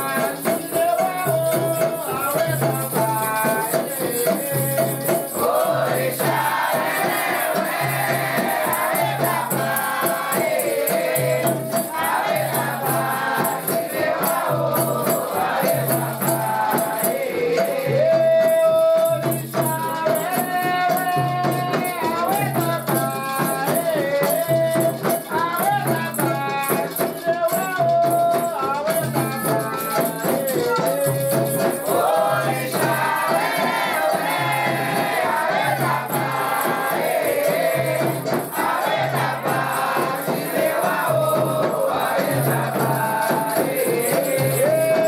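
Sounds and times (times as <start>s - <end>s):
shaken rattles: 0.0s - 45.0s
voices singing a chant: 0.0s - 45.0s.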